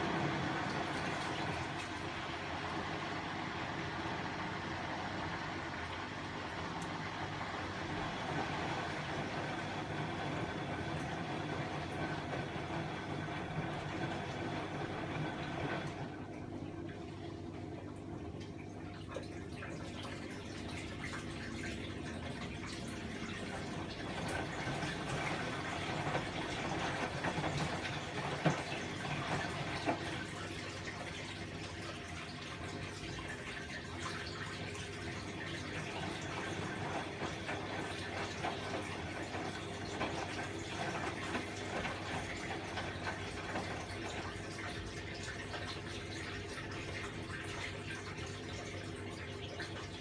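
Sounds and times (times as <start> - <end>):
water splashing in washing machine: 0.0 - 50.0.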